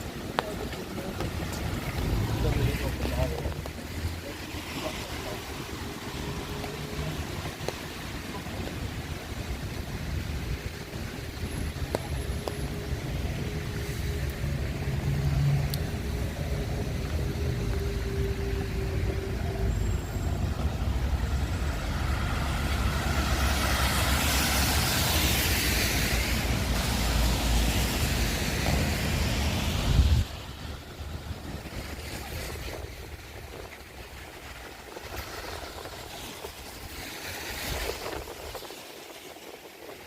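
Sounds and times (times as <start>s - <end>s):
road traffic rumble: 0.0s - 40.0s
tyres hissing on wet road: 0.0s - 40.0s.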